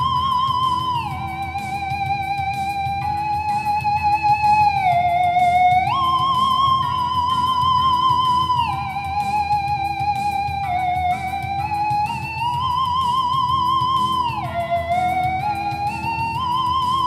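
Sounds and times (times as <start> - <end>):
theremin melody with vibrato: 0.0 - 17.0.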